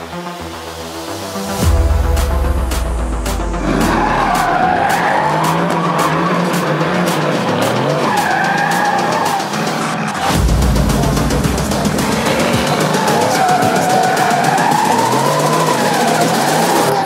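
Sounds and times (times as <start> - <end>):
electronic music beat: 0.0 - 17.0
car engine at high revs: 2.7 - 17.0.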